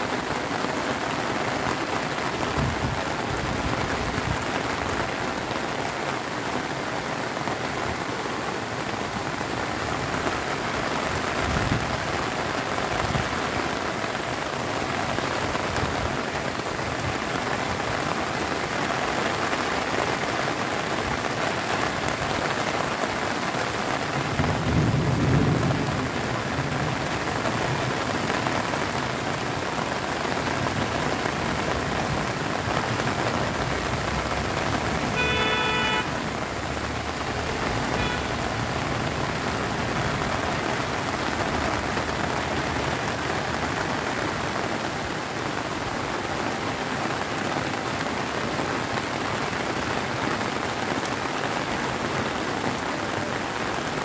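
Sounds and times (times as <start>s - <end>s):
rain on concrete rooftop: 0.0s - 54.0s.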